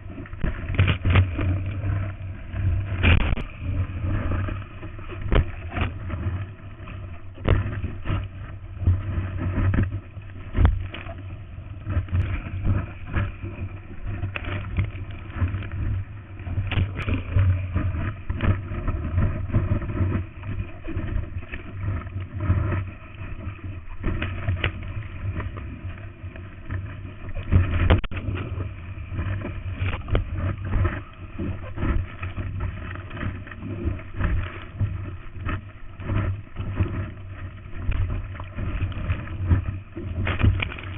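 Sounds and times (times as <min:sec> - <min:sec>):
water splashing over camera: 0:00.0 - 0:40.9.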